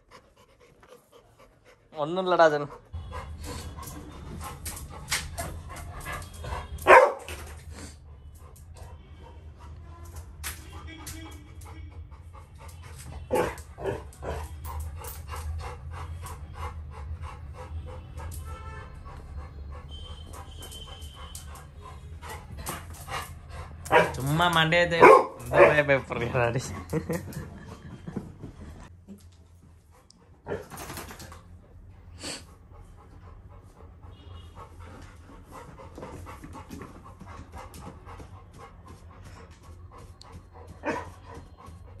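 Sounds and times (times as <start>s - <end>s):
puppy panting fast: 0.0s - 7.1s, 7.8s - 42.0s.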